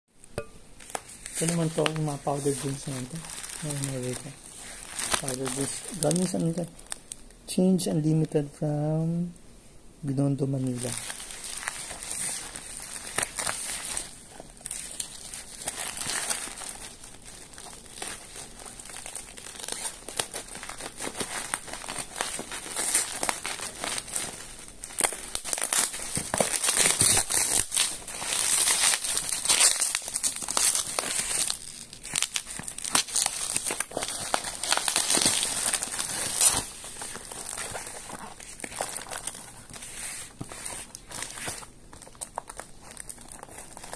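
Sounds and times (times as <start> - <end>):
bubble wrap crinkling: 0.2 - 9.3, 10.2 - 43.9.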